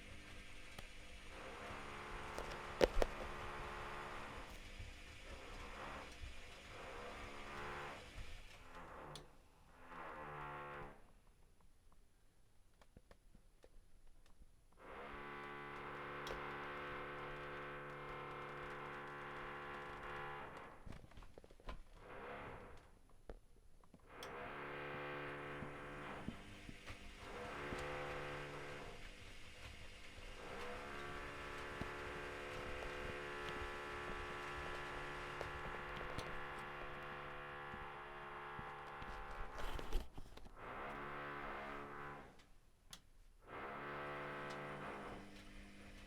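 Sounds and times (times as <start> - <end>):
washing machine motor whining: 0.0 - 11.1, 14.8 - 23.1, 24.0 - 42.5, 43.4 - 46.0.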